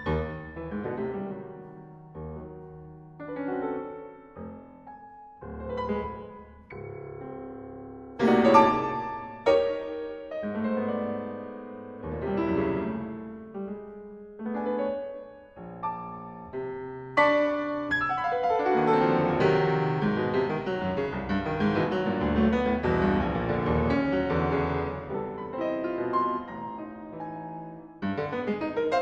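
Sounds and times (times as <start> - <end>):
solo piano piece: 0.0 - 29.0.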